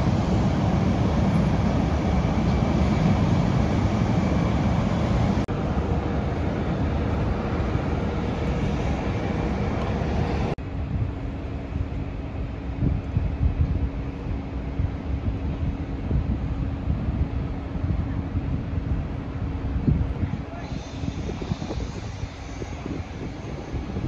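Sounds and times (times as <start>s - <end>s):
deep rumble of aircraft: 0.0s - 24.0s.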